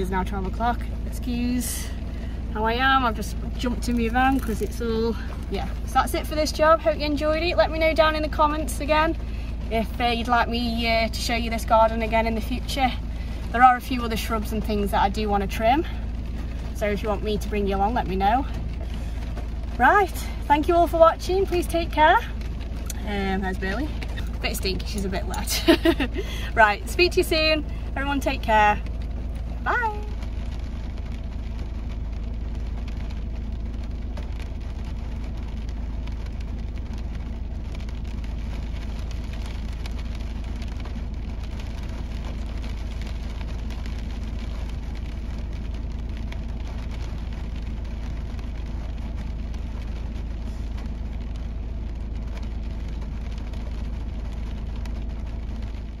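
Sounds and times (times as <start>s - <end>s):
constant low rumble: 0.0s - 56.0s
heavy rain on vehicle roof: 0.0s - 56.0s.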